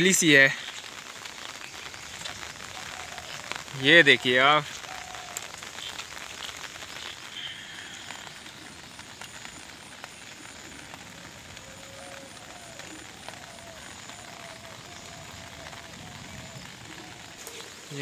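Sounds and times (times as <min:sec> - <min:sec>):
light rain hissing: 0:00.0 - 0:18.0
raindrops ticking on wet ground: 0:00.0 - 0:18.0.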